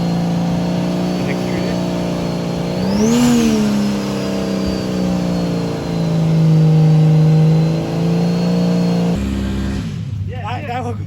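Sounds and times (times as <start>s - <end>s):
engine at high revs: 0.0s - 11.0s.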